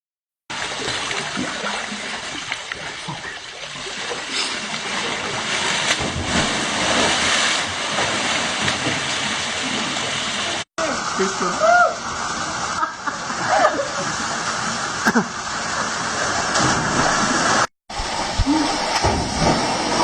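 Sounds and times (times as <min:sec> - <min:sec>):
water pouring into a pool: 0:00.5 - 0:20.0.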